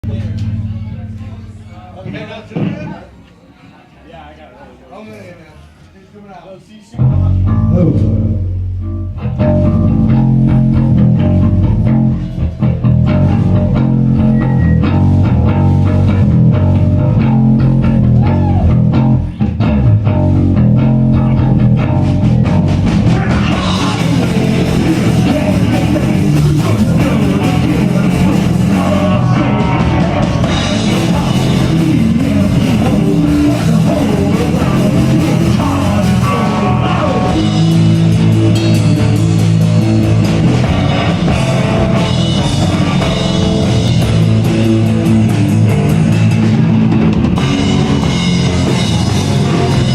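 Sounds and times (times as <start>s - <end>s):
distorted electric guitar: 0.0s - 2.7s, 7.0s - 49.9s
bass guitar: 0.0s - 3.0s, 7.0s - 49.9s
drum kit: 7.0s - 49.9s.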